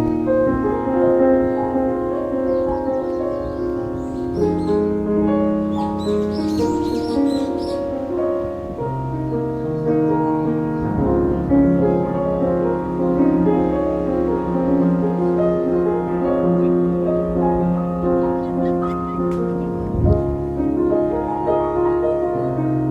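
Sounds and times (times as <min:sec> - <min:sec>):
low bass line: 0:00.0 - 0:22.9
soft piano tune: 0:00.0 - 0:22.9.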